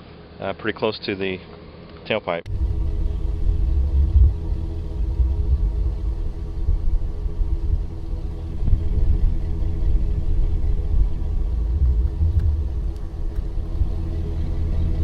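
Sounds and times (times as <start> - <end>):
truck engine idling: 2.5 - 15.0.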